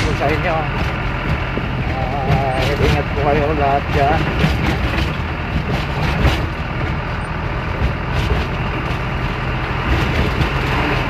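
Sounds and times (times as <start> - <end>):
knocks and rattles: 0.0 - 11.0
truck engine and road rumble: 0.0 - 11.0.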